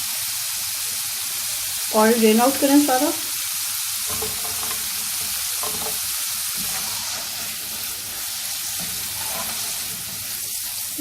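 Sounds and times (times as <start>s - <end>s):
fries sizzling in oil: 0.0s - 11.0s.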